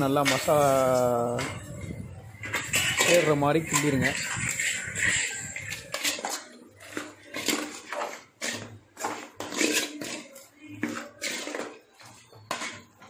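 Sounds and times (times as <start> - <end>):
metal spatula scraping pan: 0.0 - 13.0.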